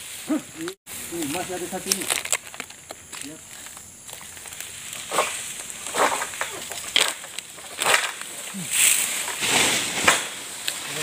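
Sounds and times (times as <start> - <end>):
palm fronds rustling: 0.0 - 11.0
sickle cutting stalks: 0.0 - 11.0.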